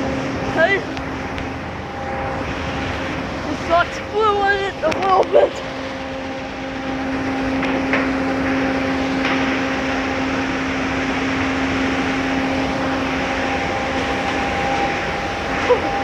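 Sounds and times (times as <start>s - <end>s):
car wash machinery rushing: 0.0s - 16.0s
motor hum: 0.0s - 16.0s.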